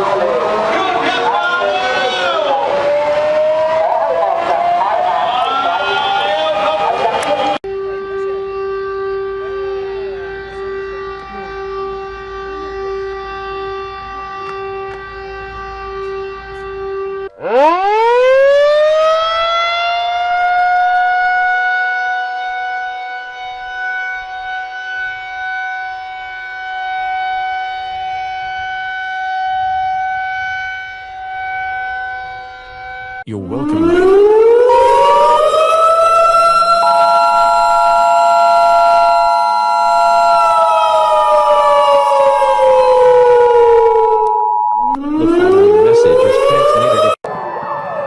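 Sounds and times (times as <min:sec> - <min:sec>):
siren winding up to wail: 0:00.0 - 0:48.0
steady single-pitch siren tone: 0:07.6 - 0:48.0.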